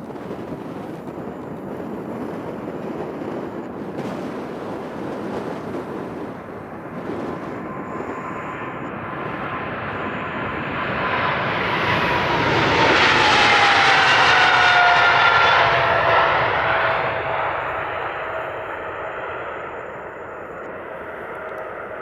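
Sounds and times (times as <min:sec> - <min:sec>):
jet aircraft passing by: 0:00.0 - 0:22.0.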